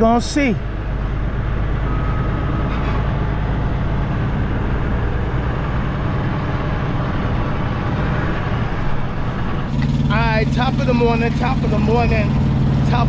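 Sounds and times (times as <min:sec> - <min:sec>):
road noise: 0:00.0 - 0:13.0
truck diesel engine rumble: 0:00.0 - 0:13.0.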